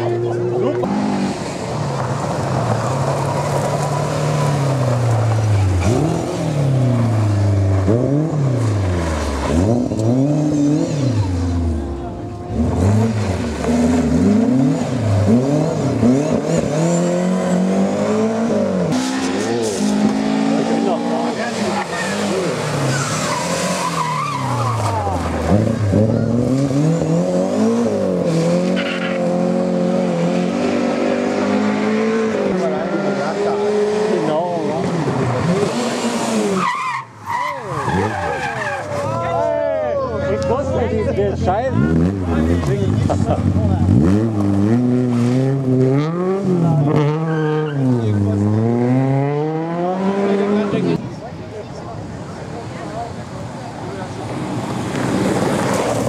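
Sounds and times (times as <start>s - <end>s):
rally car engine revving: 0.0s - 39.6s, 40.4s - 56.0s.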